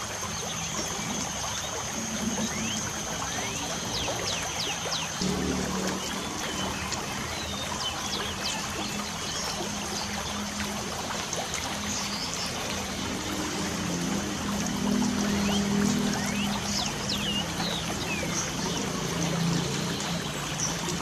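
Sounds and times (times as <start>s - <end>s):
birds chirping: 0.0s - 21.0s
light rain falling: 0.0s - 21.0s.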